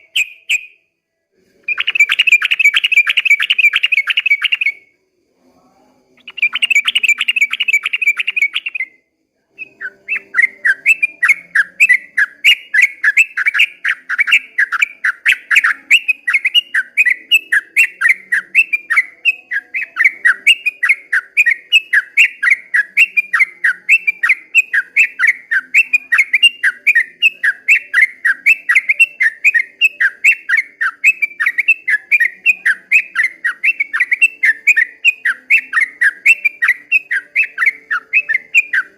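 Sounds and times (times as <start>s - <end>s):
bird singing rapid notes: 0.0s - 0.8s, 1.7s - 4.8s, 6.2s - 9.0s, 9.6s - 38.9s.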